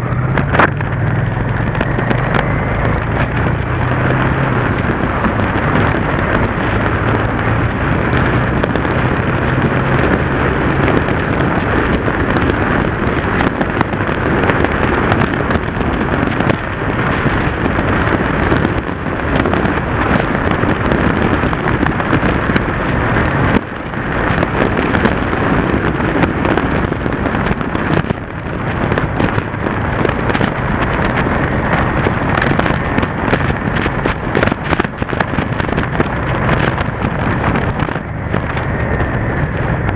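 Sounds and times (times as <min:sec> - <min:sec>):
motorcycle engine hum: 0:00.0 - 0:39.9
wind buffeting microphone: 0:00.0 - 0:39.9.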